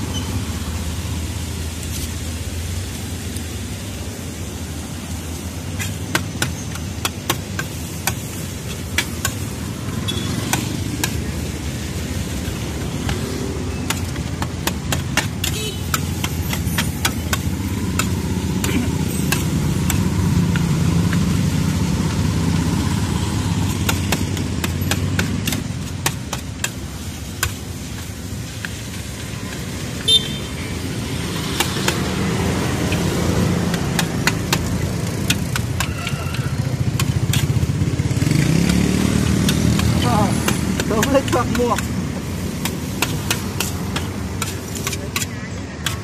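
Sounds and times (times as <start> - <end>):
road traffic noise: 0.0 - 46.0.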